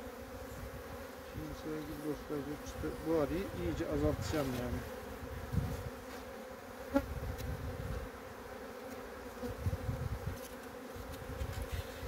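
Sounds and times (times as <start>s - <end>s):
honeybees humming: 0.0s - 12.0s.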